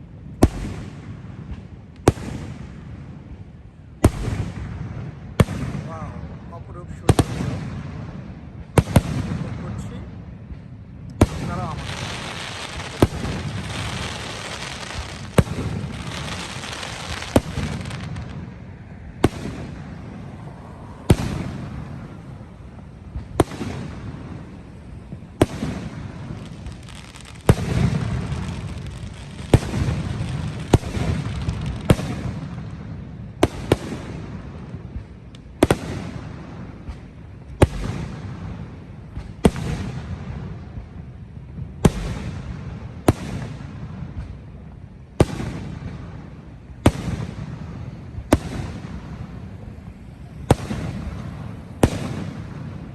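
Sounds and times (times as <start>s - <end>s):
fireworks crackle: 0.0s - 52.9s.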